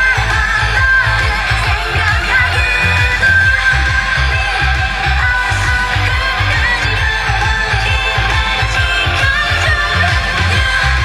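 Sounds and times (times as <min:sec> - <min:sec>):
dance music over sound system: 0:00.0 - 0:11.0.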